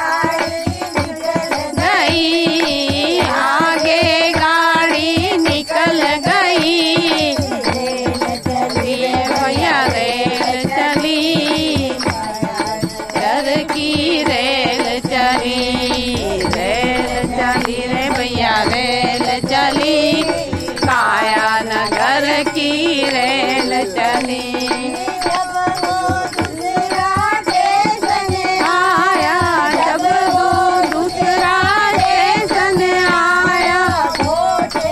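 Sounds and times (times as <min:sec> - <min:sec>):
women singing in unison: 0:00.0 - 0:34.9
hand clapping: 0:00.3 - 0:34.9
hand drum playing: 0:06.3 - 0:34.9.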